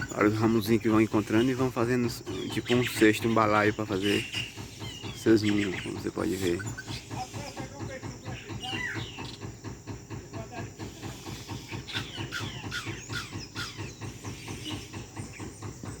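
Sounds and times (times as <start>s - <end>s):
birds whistling calls: 0.0s - 16.0s.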